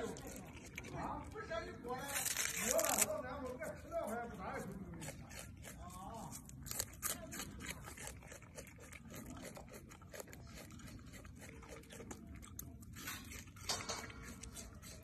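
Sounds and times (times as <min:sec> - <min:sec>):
monkey chewing crunchy onion: 0:00.0 - 0:15.0.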